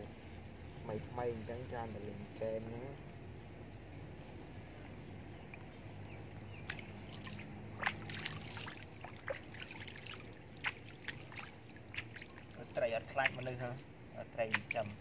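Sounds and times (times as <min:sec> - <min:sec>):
small splashes of pond water: 0:02.6 - 0:15.0.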